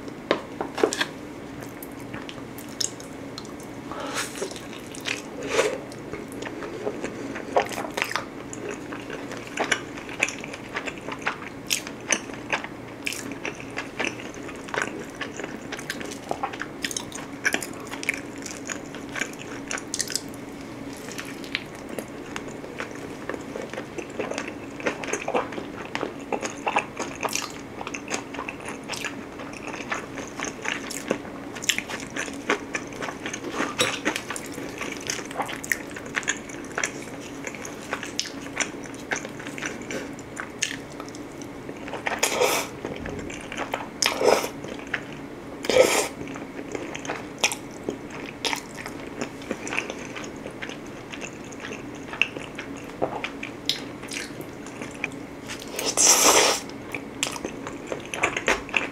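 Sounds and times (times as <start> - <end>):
chewing and wet mouth sounds: 0.9 - 58.9.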